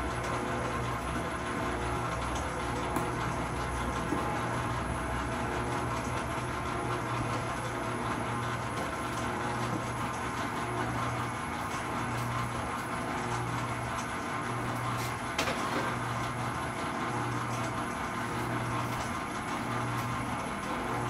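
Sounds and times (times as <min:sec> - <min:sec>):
stand mixer motor humming: 0:00.0 - 0:21.0.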